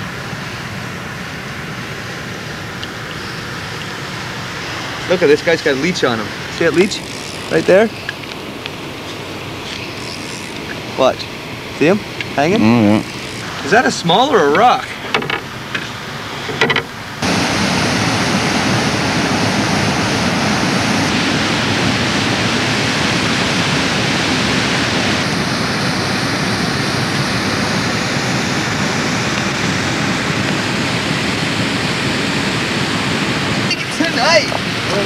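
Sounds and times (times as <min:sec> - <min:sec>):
river water rushing: 0:00.0 - 0:11.8, 0:13.0 - 0:35.0.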